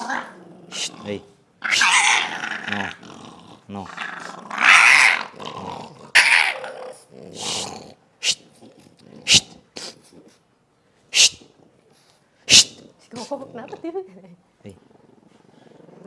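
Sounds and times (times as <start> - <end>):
dog growling and snarling: 0.0 - 10.4, 12.5 - 14.0, 14.8 - 16.0.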